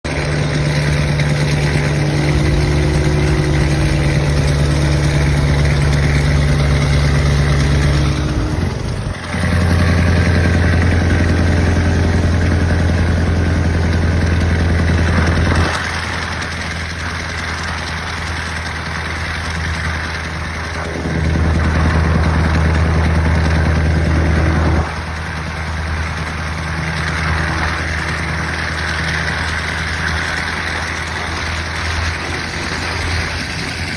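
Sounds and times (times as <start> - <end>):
diesel truck engine rumbling: 0.0 - 33.9.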